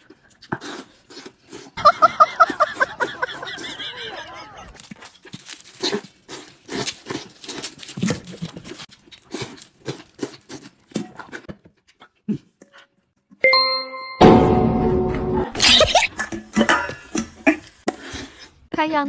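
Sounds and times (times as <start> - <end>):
man slurping and chewing noodles: 0.0 - 13.3, 15.6 - 18.7.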